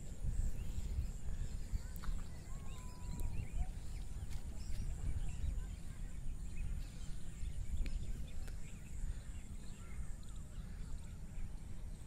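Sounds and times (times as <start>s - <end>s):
faint bird chirps: 0.0s - 12.0s
wind buffeting microphone: 0.0s - 12.0s.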